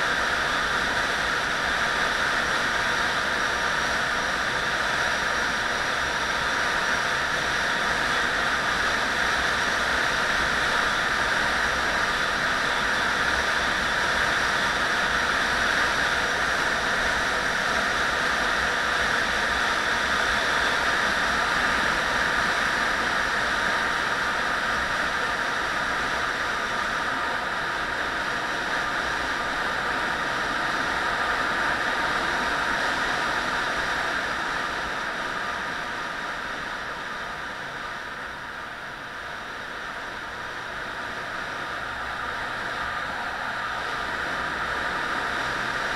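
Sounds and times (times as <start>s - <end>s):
vehicle road noise: 0.0s - 45.9s.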